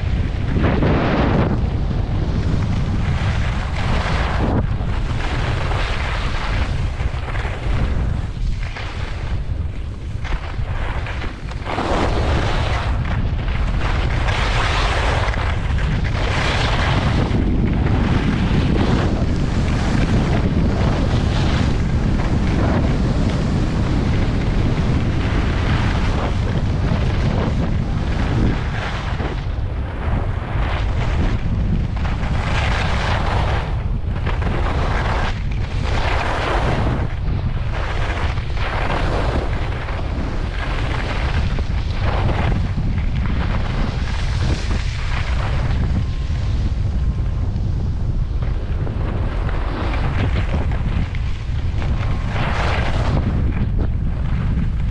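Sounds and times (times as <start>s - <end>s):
skis scraping on snow: 0.0s - 54.9s
wind buffeting microphone: 0.0s - 54.9s.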